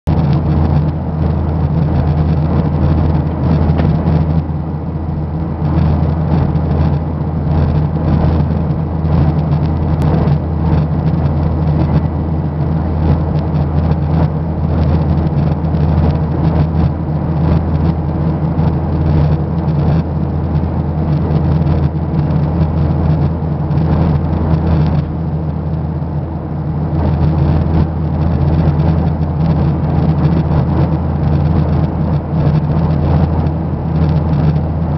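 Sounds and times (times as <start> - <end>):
airliner cabin engine hum: 0.0 - 34.9
deep even hum: 0.0 - 34.9
rushing airflow: 0.1 - 34.9.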